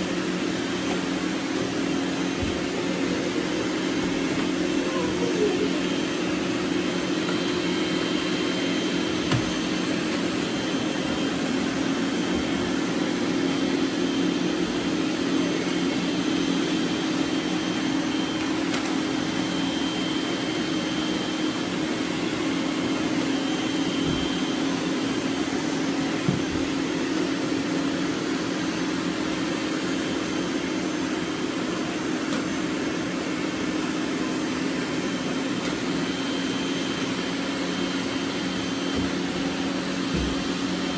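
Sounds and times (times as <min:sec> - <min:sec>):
robot vacuums whirring: 0:00.0 - 0:40.9.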